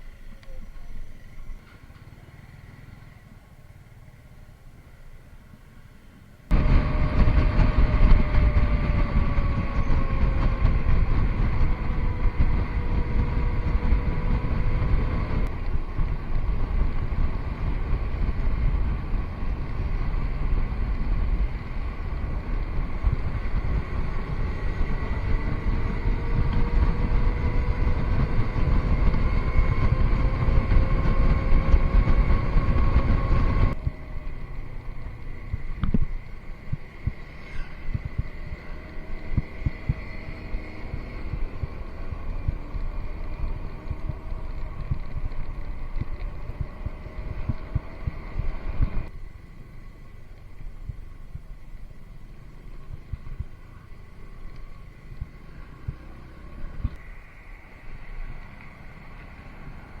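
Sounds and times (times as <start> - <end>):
motorcycle engine hum: 0.0 - 60.0
wind buffeting microphone: 6.5 - 60.0.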